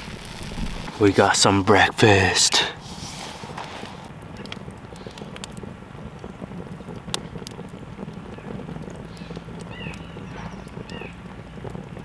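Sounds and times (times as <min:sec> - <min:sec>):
campfire crackling with pops: 0:00.0 - 0:12.0.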